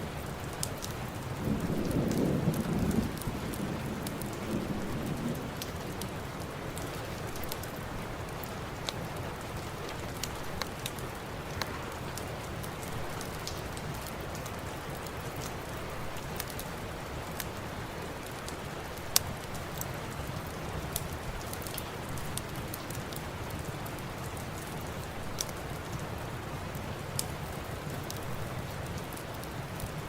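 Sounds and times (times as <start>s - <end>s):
rain hiss: 0.0s - 30.0s
wood fire popping and crackling: 0.0s - 30.0s.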